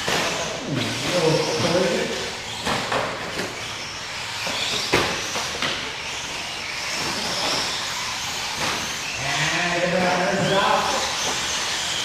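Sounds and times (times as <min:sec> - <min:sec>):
toy trucks motors whirring: 0:00.0 - 0:12.0.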